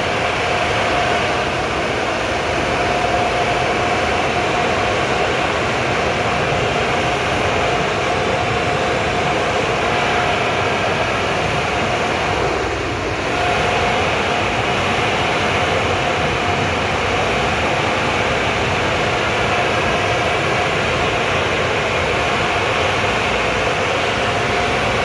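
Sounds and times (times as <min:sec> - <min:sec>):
car wash machinery rushing: 0:00.0 - 0:25.0
machinery whine: 0:00.0 - 0:25.0.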